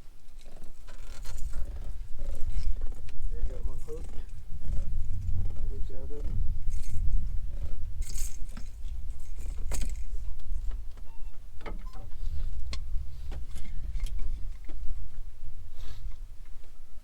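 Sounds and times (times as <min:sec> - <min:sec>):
low handling rumble: 0:01.2 - 0:17.0.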